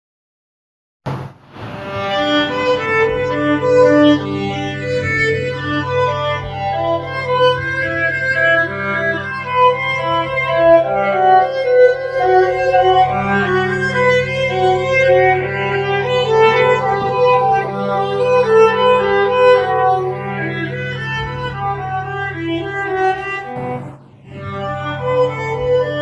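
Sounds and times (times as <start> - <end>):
low held note: 1.1 - 8.4, 10.8 - 26.0
viola playing bowed melody: 1.8 - 26.0.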